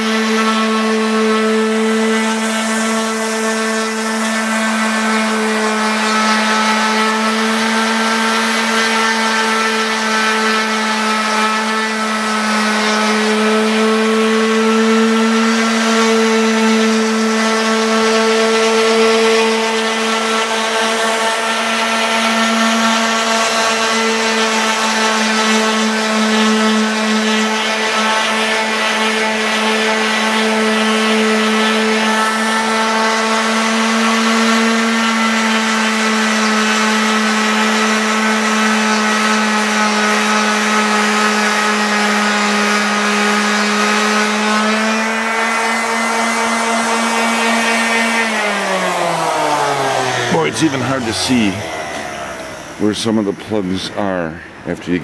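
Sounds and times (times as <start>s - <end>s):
orbital sander running: 0.0s - 55.0s.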